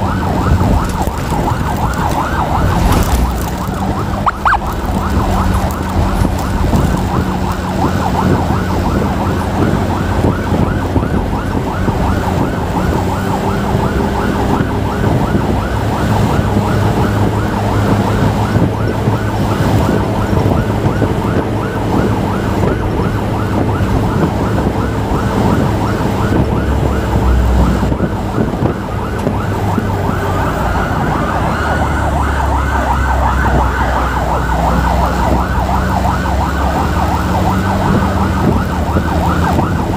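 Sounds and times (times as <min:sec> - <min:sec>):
siren yelping: 0:00.0 - 0:39.9.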